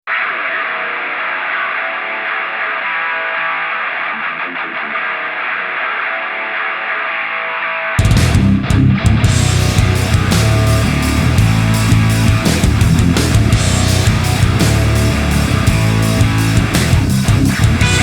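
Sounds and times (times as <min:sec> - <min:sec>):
rock music with electric guitar: 0:00.1 - 0:18.0.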